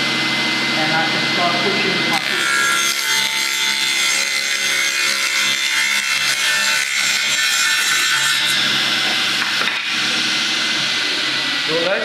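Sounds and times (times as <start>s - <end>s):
saw motor hum: 0.0s - 12.0s.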